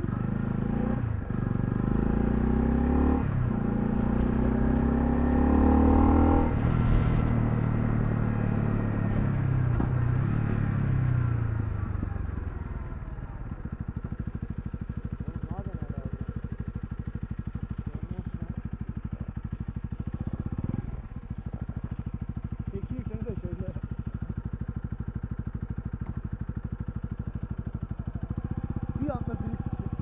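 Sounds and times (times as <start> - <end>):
motorcycle engine idling: 0.0 - 30.0
motorcycle engine revving through gears: 0.0 - 30.0.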